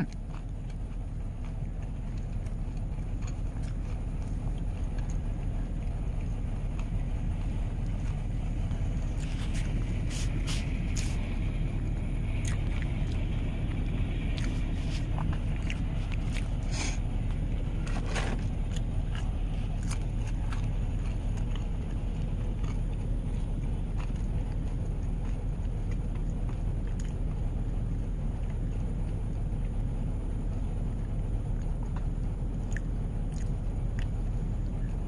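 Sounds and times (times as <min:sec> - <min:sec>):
low rumble inside car cabin: 0:00.0 - 0:35.0.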